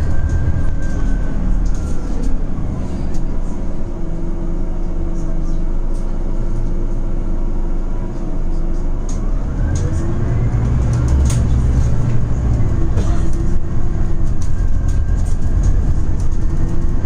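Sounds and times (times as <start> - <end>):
bus engine humming and accelerating: 0.0 - 17.0.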